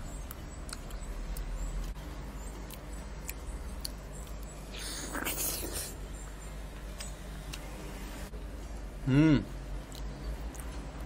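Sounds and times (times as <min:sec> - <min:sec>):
person chewing wet fruit: 0:00.0 - 0:07.7, 0:09.6 - 0:11.0.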